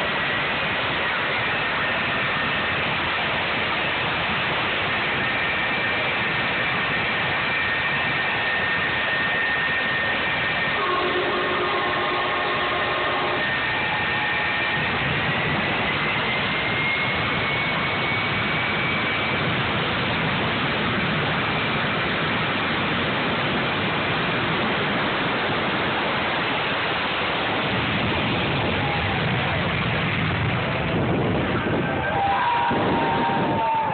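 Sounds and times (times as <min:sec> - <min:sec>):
jet engine roaring: 0:00.0 - 0:33.9.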